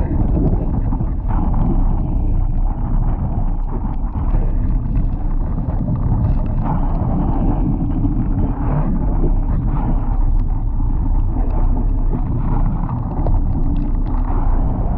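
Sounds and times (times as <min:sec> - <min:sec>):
water splashing along a hull: 0:00.0 - 0:14.9
wind buffeting microphone: 0:00.0 - 0:14.9.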